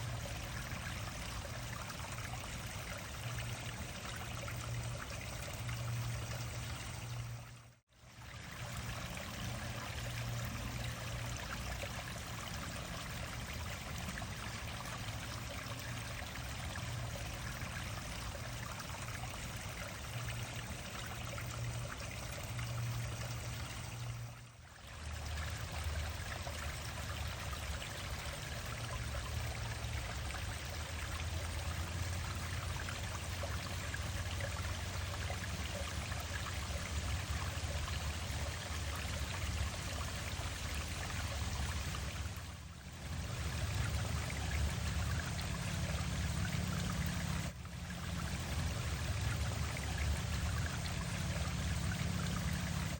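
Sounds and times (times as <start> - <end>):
stream water over waterfall: 0.0 - 52.9.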